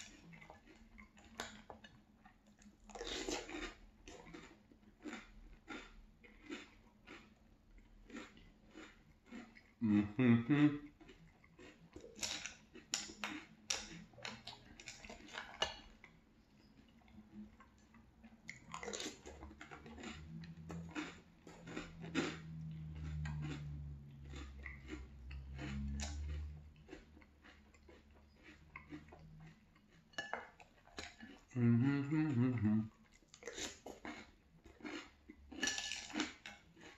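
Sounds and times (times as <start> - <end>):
person crunching cereal: 2.6 - 15.9, 18.5 - 36.9.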